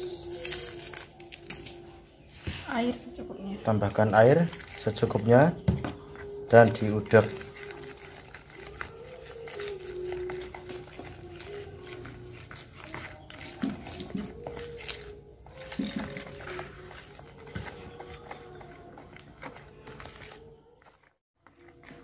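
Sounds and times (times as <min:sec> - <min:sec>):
spoon scraping a plastic bowl: 0:03.6 - 0:22.0.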